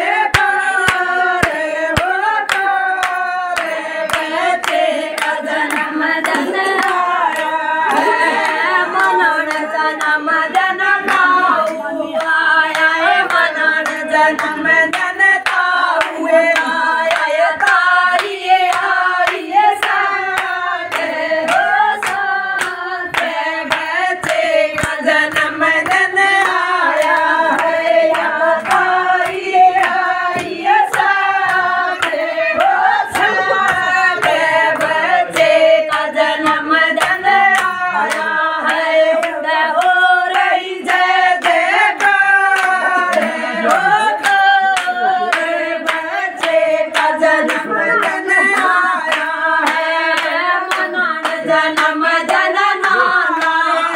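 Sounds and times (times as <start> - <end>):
hand clapping in time: 0.0 - 53.9
women singing devotional song: 0.0 - 53.9.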